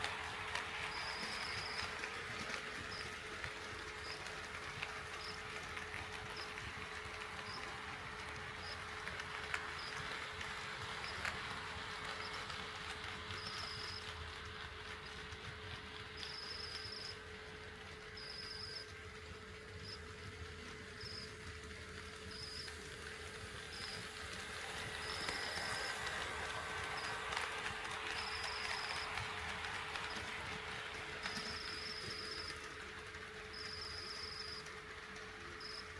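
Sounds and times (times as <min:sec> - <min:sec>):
model train rolling rattle: 0:00.0 - 0:35.9.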